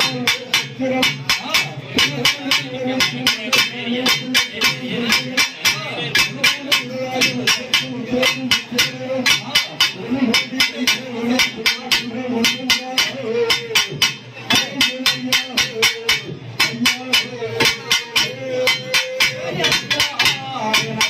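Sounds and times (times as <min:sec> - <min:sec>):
rapid drum strikes: 0:00.0 - 0:21.0.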